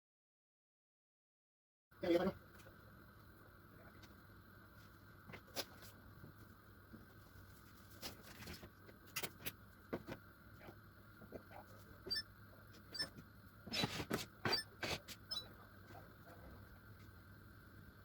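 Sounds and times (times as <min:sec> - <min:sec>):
faint steady hum: 0:01.9 - 0:18.0.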